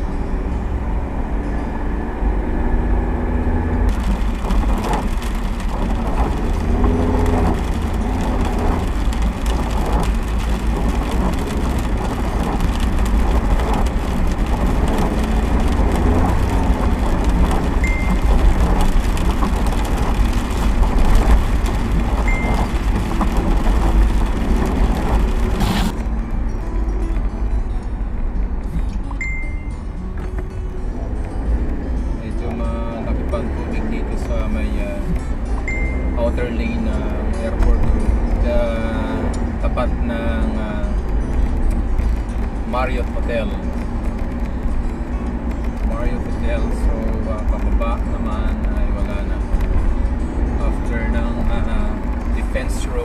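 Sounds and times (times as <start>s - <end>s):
road and engine rumble: 0.0s - 53.0s
rain hissing on a car: 3.9s - 26.2s, 30.9s - 53.0s.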